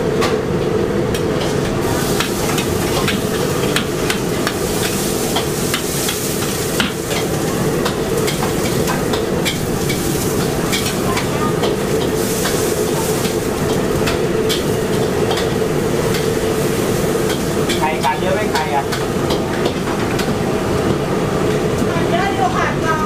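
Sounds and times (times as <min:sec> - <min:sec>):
noodles sizzling in a wok: 0:01.8 - 0:22.1.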